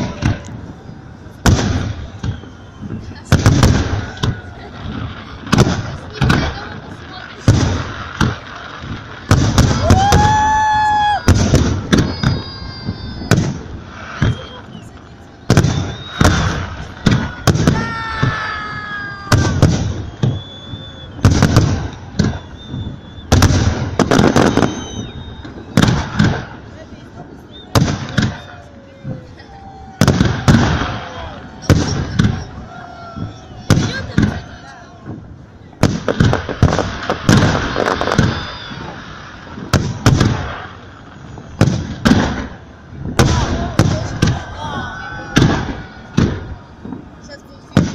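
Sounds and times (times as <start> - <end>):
firework booms: 0.0 - 47.9
fireworks crackling: 0.0 - 47.9.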